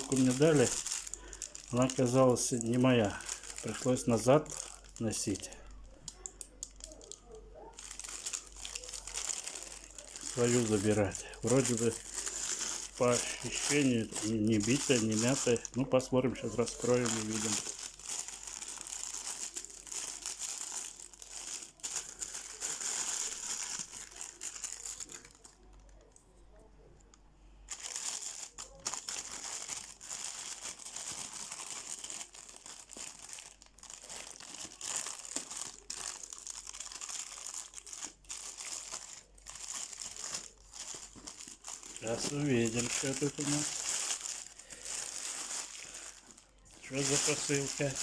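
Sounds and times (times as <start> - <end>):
packaging crumpled and torn: 0.0 - 26.1, 27.7 - 48.0.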